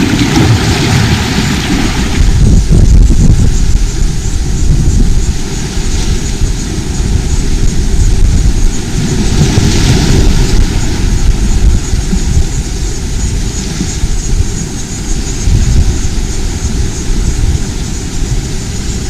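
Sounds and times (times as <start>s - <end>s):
surf: 0.0s - 19.0s
wind buffeting microphone: 0.0s - 19.0s.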